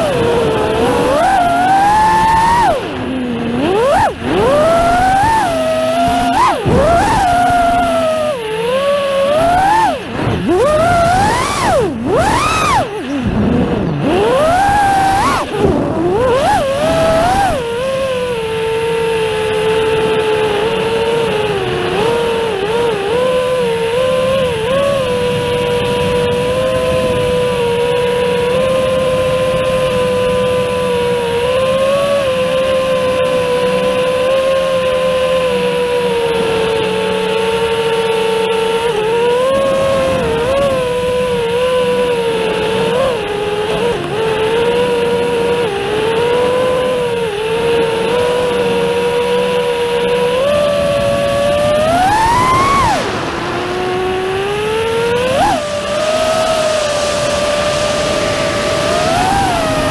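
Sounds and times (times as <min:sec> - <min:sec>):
quadcopter motors whining: 0:00.0 - 0:59.9
rush of prop wash: 0:00.0 - 0:59.9.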